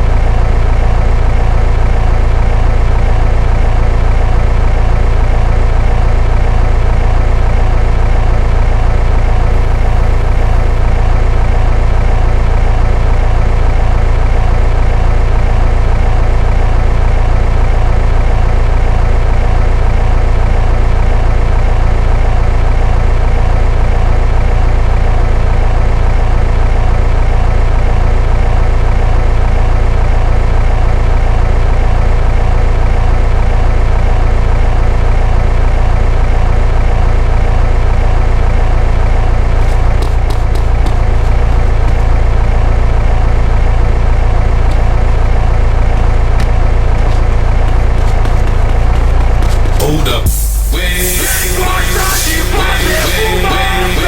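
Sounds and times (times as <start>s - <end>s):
loud distorted bass from car stereo: 0.0s - 54.0s.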